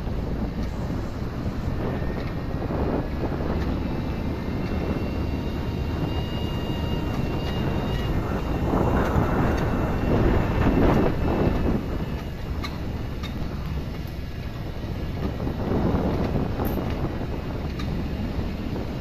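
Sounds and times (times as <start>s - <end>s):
vehicle engine running: 0.0s - 19.0s
wind rushing over microphone: 0.0s - 19.0s.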